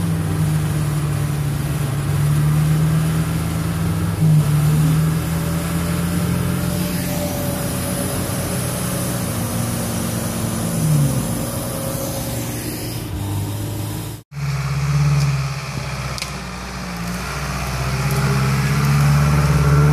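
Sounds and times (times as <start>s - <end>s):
different steady engine note: 0.0s - 19.9s
off-road vehicle engine running: 0.0s - 19.9s.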